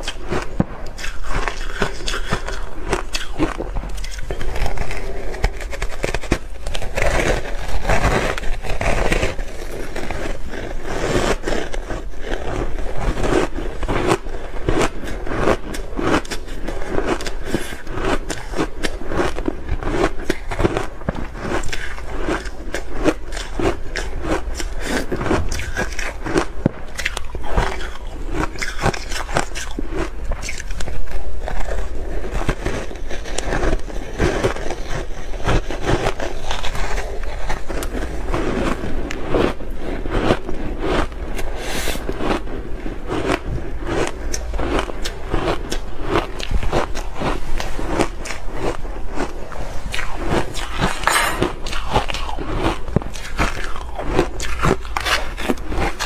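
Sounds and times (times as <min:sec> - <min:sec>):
ice being crunched: 0:00.0 - 0:56.0.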